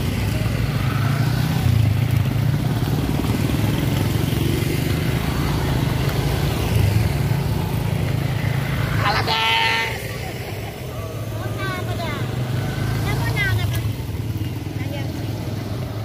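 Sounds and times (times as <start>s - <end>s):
motorcycles and scooters riding past: 0.0s - 16.0s.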